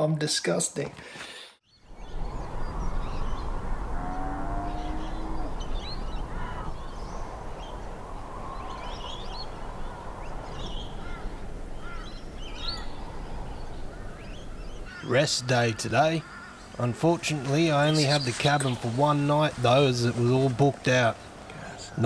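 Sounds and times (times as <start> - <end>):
outdoor background noise: 0.0 - 22.0
birds chirping and calling: 1.7 - 22.0.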